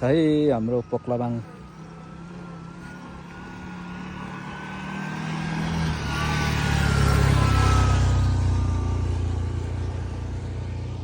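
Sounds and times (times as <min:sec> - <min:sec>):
thin whine: 0:00.0 - 0:11.0
vehicle engine running: 0:00.0 - 0:11.0.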